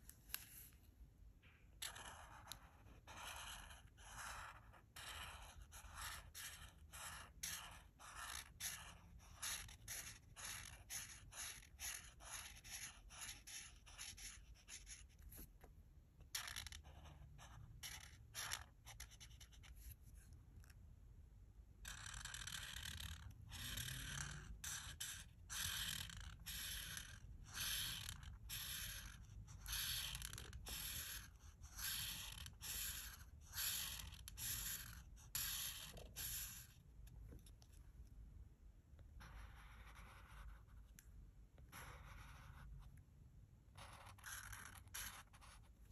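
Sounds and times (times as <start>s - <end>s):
marker stroking across paper: 0.0s - 0.9s, 1.8s - 15.5s, 16.2s - 20.8s, 21.8s - 37.8s, 39.0s - 43.0s, 43.7s - 45.9s.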